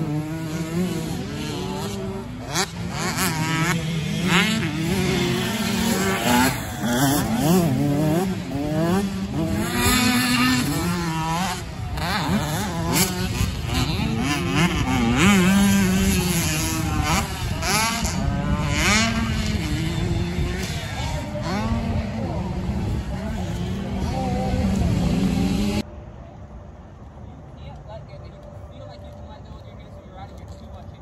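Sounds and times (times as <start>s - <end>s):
motocross bikes revving: 0.0s - 25.9s.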